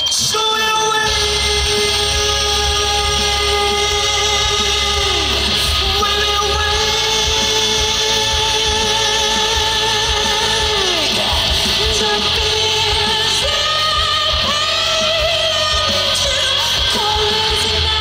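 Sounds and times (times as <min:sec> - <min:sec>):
band accompaniment with drums: 0:00.0 - 0:18.0
man singing rock song: 0:00.0 - 0:18.0.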